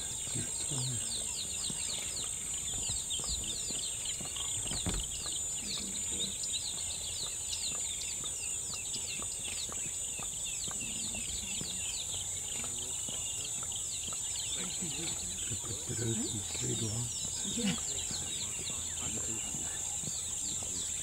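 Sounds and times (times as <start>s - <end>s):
small birds chirping: 0.0s - 21.0s
steady high-pitched hum: 0.0s - 21.0s.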